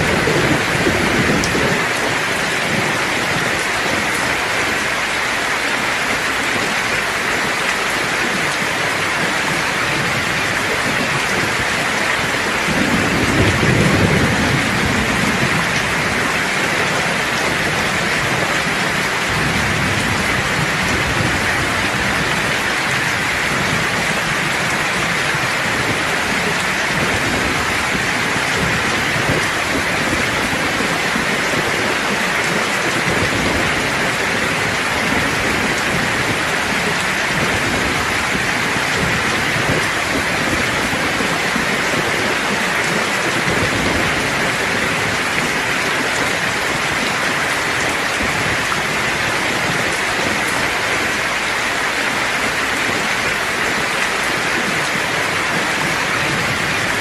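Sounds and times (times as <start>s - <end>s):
distant thunder rumbling: 0.0s - 5.2s, 6.1s - 51.5s
heavy rain hissing: 0.0s - 57.0s.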